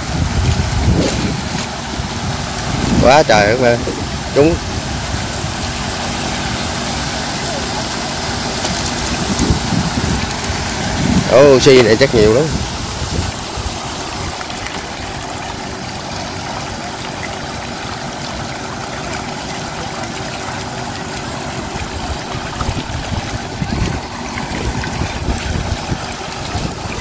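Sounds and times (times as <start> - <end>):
water trickling and splashing: 0.0 - 27.0.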